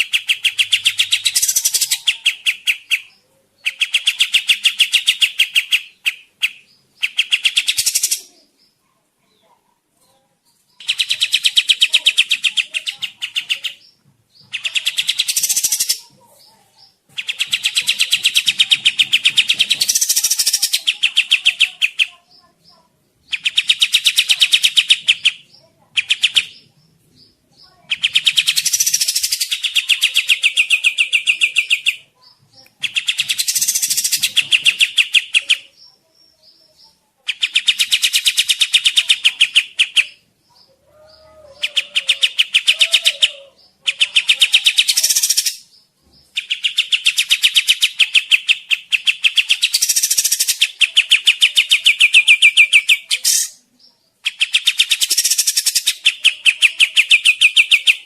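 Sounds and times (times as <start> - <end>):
bird chattering trill: 0.0 - 8.5, 10.8 - 58.0.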